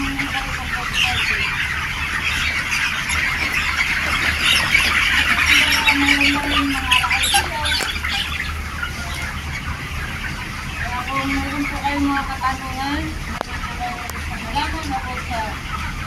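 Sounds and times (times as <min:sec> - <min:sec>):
chickens chirping and squawking: 0:00.0 - 0:16.0.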